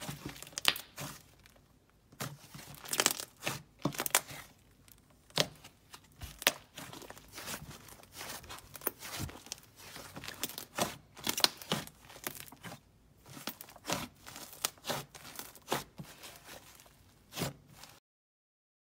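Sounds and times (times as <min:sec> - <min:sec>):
slime squishing with sticky clicks: 0:00.0 - 0:18.0.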